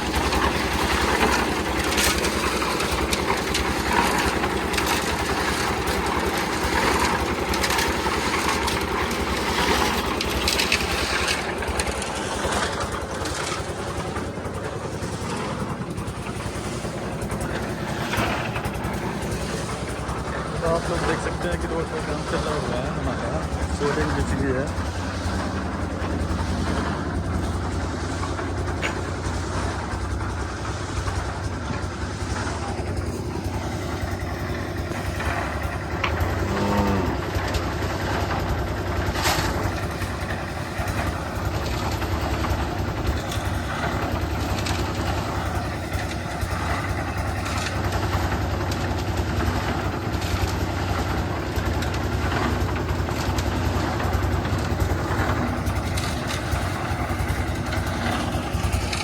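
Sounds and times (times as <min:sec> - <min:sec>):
engine humming: 0:00.0 - 0:59.0.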